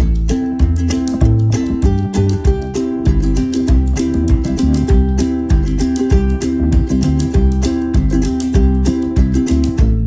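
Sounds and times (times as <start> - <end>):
plucked guitar music with beat: 0.0 - 10.0.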